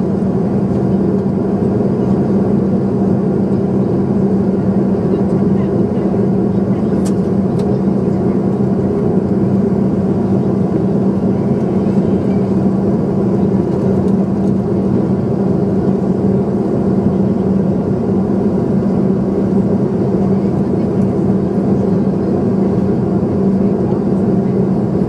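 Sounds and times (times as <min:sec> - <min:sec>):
airliner engine and airflow noise: 0:00.0 - 0:25.0
steady low hum: 0:00.0 - 0:25.0.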